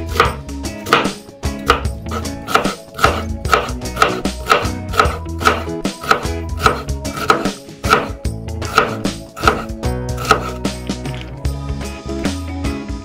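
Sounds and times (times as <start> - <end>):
knife chopping onion on wooden board: 0.0 - 10.8
background music: 0.0 - 13.0.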